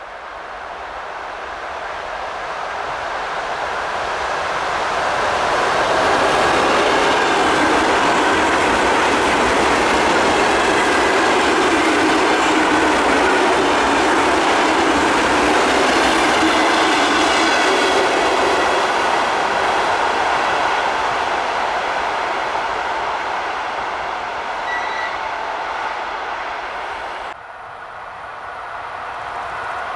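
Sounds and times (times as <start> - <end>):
train rolling past on rails: 0.3 - 29.9.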